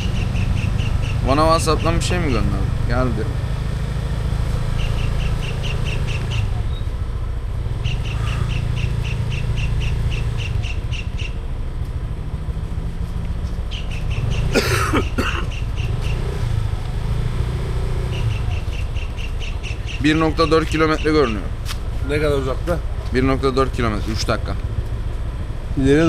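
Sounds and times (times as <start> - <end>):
car engine hum: 0.0 - 26.0.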